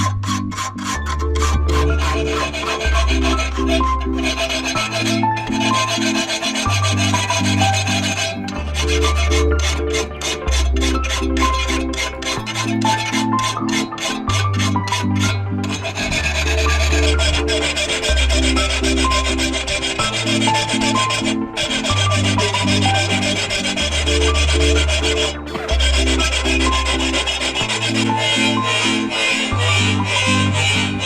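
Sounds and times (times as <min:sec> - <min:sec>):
abrasive rubbing on metal: 0:00.0 - 0:31.0
background music: 0:00.0 - 0:31.0.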